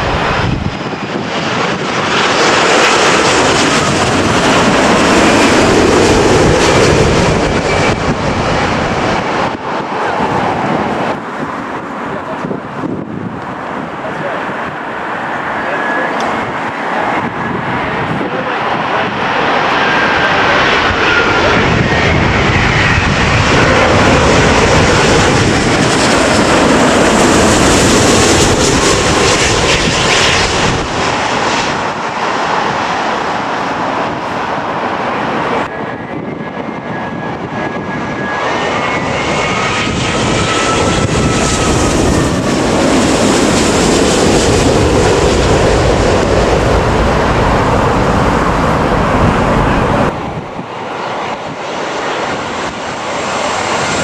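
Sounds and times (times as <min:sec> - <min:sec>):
jet airliner engine roar: 0:00.0 - 0:54.0.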